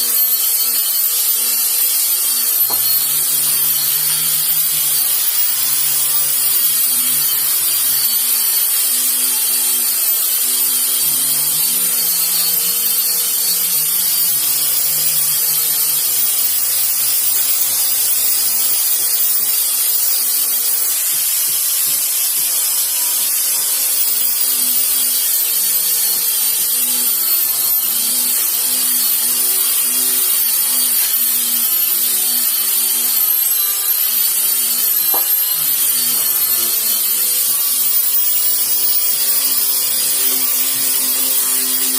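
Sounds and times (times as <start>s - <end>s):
power sander whine: 0.0s - 41.9s.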